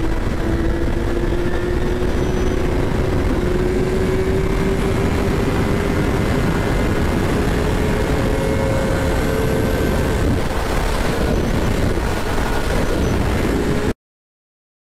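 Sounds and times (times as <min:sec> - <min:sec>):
motorcycle engine running: 0:00.0 - 0:13.9
wind rush on microphone: 0:00.0 - 0:14.0.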